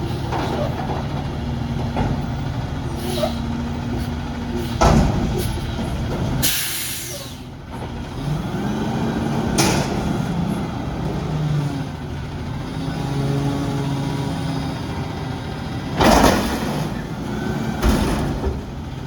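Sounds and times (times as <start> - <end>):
garbage truck engine revving: 0.0 - 19.0.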